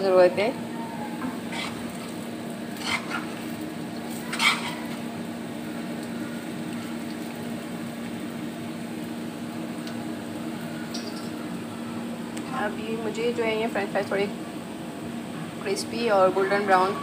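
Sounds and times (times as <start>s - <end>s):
fries sizzling in hot oil: 0.0s - 17.0s.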